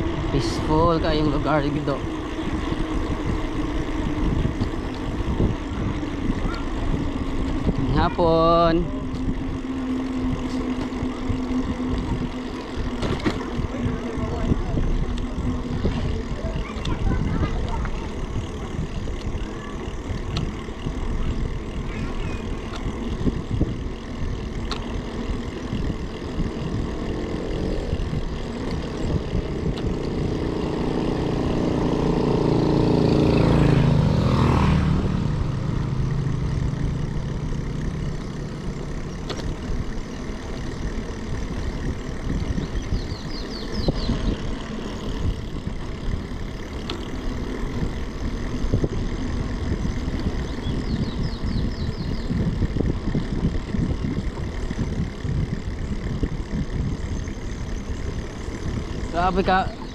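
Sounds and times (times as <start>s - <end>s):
wind rushing over microphone: 0.0s - 40.0s, 40.6s - 59.9s
motorcycle passing by: 0.0s - 59.9s.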